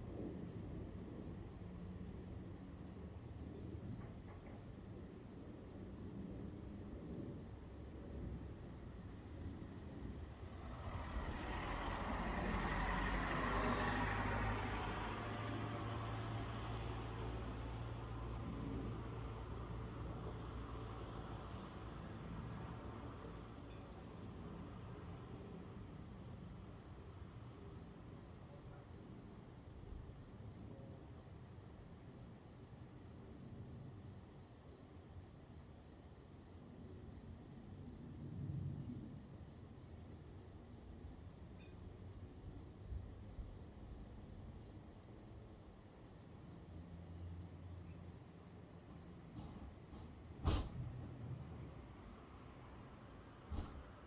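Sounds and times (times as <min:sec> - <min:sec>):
crickets chirping: 0:00.2 - 0:54.0.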